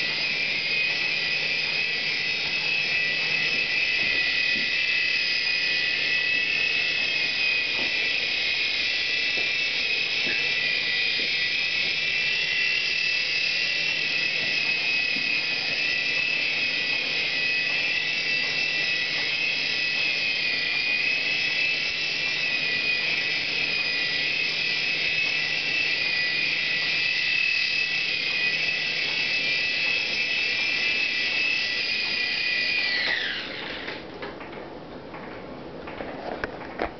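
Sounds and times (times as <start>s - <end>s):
toy helicopter rotor whining: 0.0s - 34.1s.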